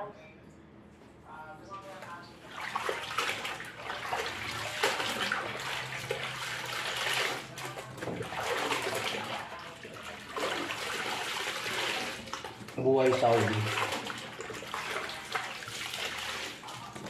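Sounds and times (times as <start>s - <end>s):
low steady hum: 0.0s - 17.0s
water sloshing and splashing: 1.8s - 17.0s.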